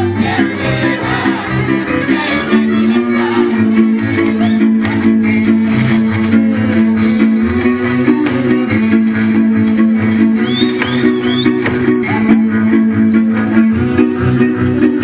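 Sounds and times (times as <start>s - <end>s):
folk dance music on strings: 0.0s - 15.0s.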